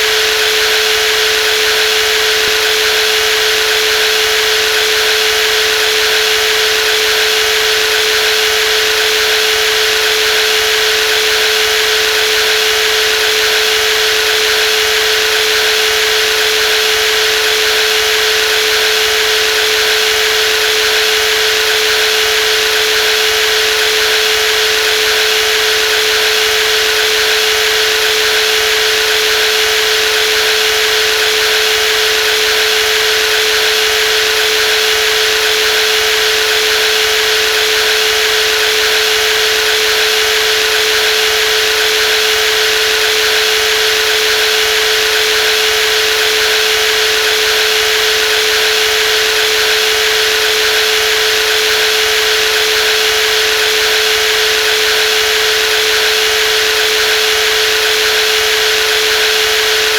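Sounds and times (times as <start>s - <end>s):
jigsaw whining: 0.0s - 59.9s.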